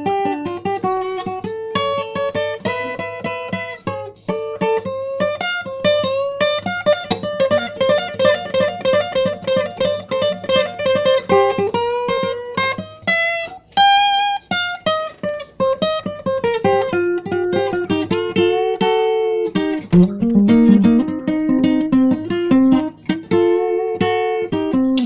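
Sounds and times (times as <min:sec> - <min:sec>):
guitar picking melody: 0:00.0 - 0:25.0.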